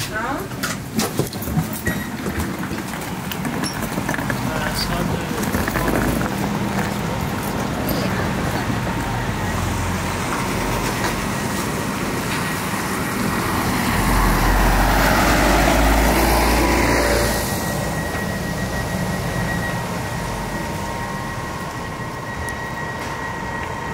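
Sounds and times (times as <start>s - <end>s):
car engine rumble: 0.1s - 23.9s.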